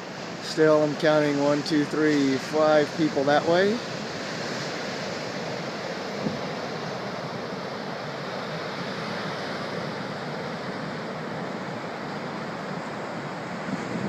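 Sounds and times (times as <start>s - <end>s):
surf breaking on beach: 0.0s - 14.0s.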